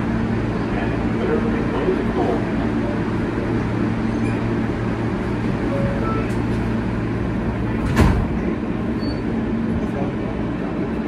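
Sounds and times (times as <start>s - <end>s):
subway wheels rumbling on rail: 0.0s - 11.0s.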